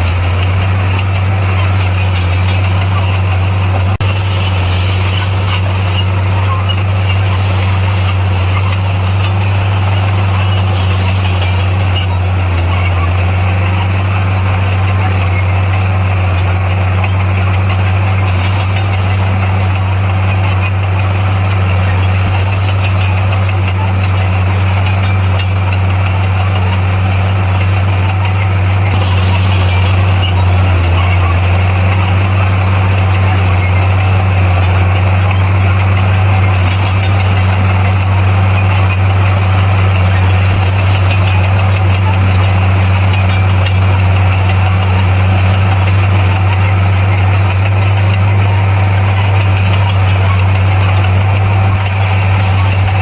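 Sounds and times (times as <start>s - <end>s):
diesel engine drone: 0.0s - 53.0s
faint squeaks and clicks: 0.0s - 53.0s.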